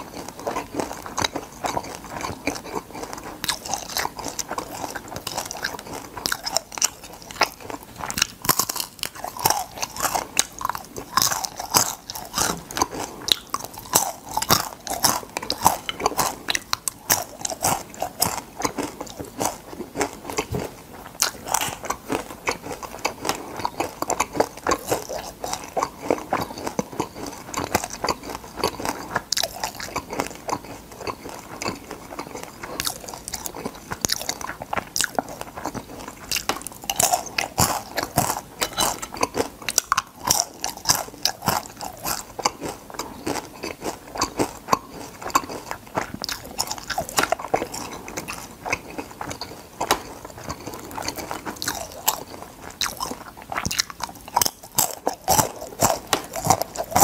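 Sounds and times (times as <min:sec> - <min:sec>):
crunching crab shells: 0:00.0 - 0:57.0.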